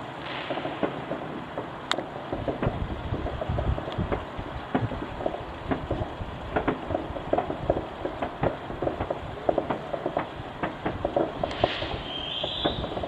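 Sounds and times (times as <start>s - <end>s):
distant fireworks bangs and pops: 0.0s - 13.0s.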